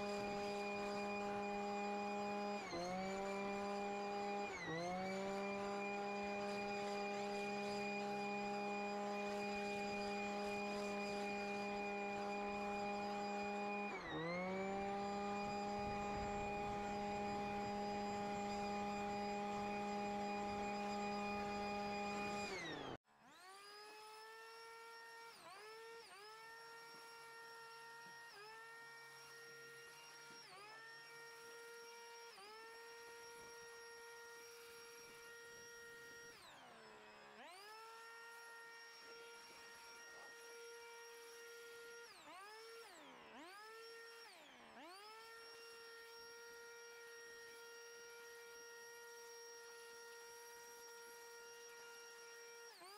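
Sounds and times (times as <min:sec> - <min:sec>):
leaf blower whine: 0:00.0 - 0:52.9.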